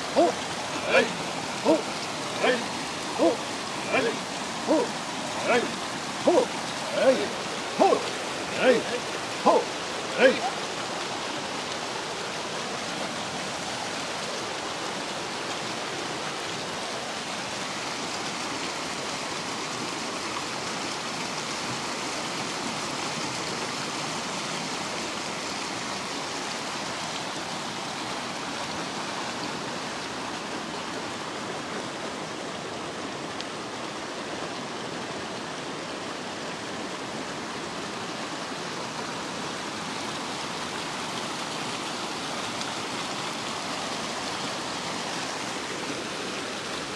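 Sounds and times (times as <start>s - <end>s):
river water rushing over rapids: 0.0s - 46.9s.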